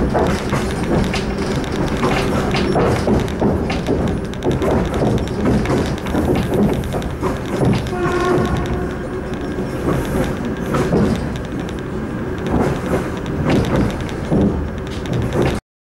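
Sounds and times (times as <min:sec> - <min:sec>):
train wheels rumbling on rails: 0:00.0 - 0:15.6
wheels knocking over rail joints: 0:00.0 - 0:15.6.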